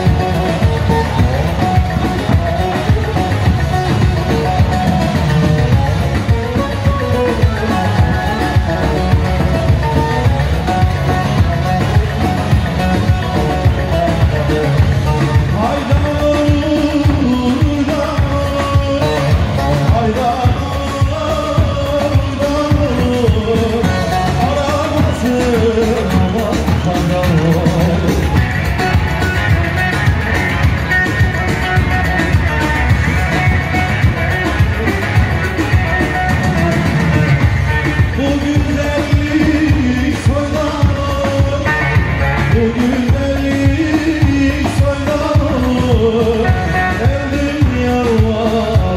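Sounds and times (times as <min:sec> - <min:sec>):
amplified saz: 0:00.0 - 0:26.2, 0:26.9 - 0:48.2
man singing into a microphone: 0:00.0 - 0:30.1, 0:30.8 - 0:48.9
electric lute melody: 0:00.0 - 0:48.9
low drum beat: 0:00.0 - 0:48.9.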